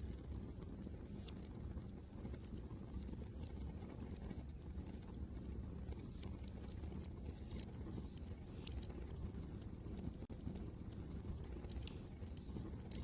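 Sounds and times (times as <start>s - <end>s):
wind rumbling outside: 0.0s - 13.0s
wood fire crackling and popping: 0.0s - 13.0s.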